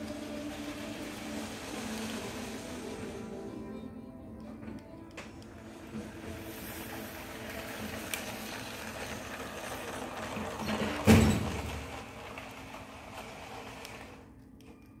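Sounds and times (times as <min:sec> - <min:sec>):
toy train whirring on track: 0:00.0 - 0:14.6.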